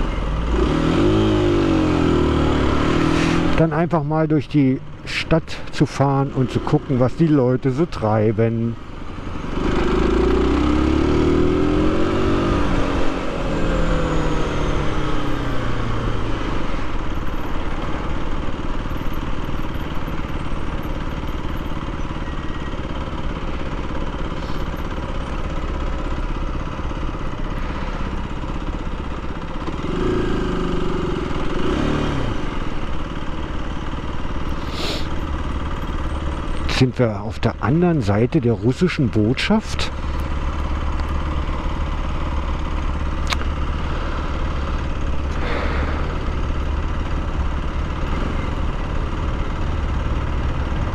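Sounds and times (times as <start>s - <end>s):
motorcycle engine revving: 0.0s - 3.7s, 9.0s - 36.7s, 39.9s - 50.9s
wind and road noise: 0.0s - 50.9s.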